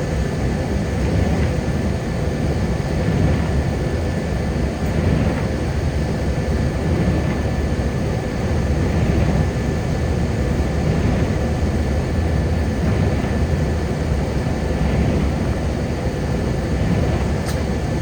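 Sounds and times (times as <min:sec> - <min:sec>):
car road noise rumble: 0:00.0 - 0:18.0.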